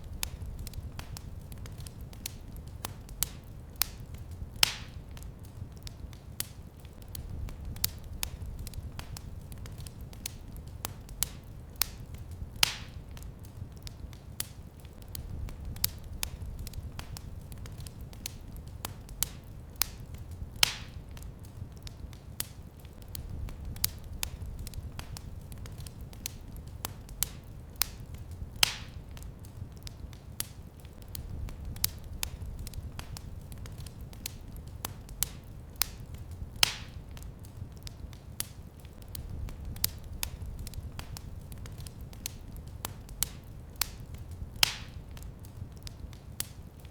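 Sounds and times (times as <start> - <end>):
fire snapping: 0.0 - 46.9
wood fire crackling: 0.0 - 46.9.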